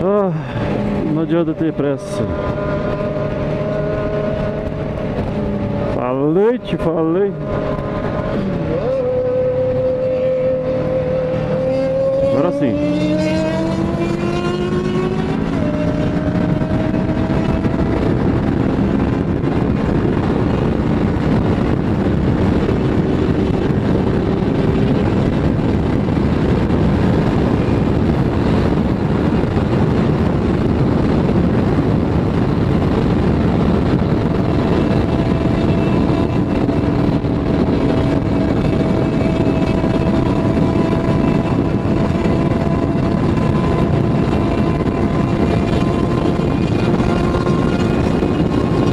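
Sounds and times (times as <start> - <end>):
motorcycle engine at speed: 0.0 - 48.9
wind rushing on microphone: 0.0 - 48.9.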